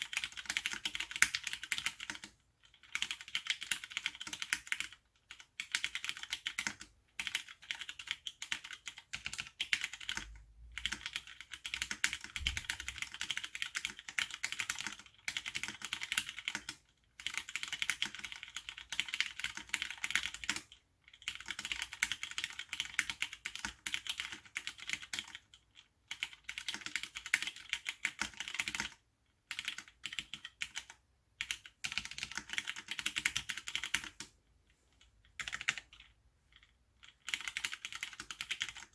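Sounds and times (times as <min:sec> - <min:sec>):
mechanical keyboard typing clicks: 0:00.0 - 0:34.4, 0:35.0 - 0:38.9.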